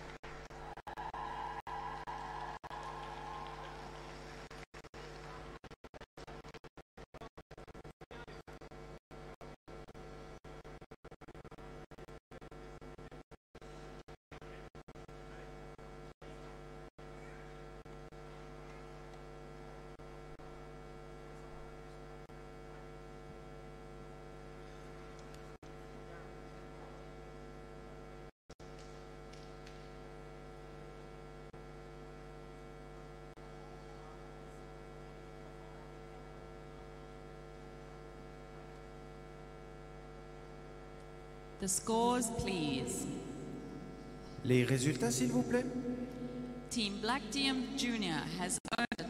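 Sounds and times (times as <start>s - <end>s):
electrical mains hum: 7.2s - 49.0s.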